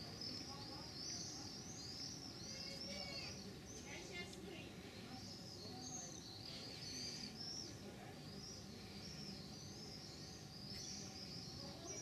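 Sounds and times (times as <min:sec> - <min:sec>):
faint outdoor background noise: 0:00.0 - 0:12.0
small birds singing: 0:00.0 - 0:12.0.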